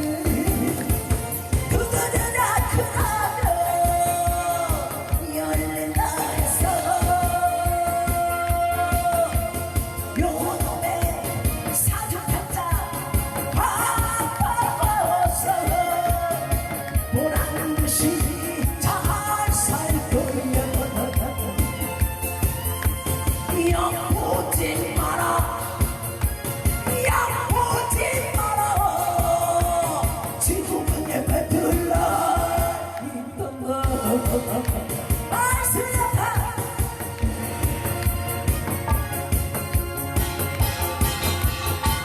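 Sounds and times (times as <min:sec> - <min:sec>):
person singing into microphone: 0:00.0 - 0:22.1, 0:23.3 - 0:26.2, 0:26.8 - 0:37.3.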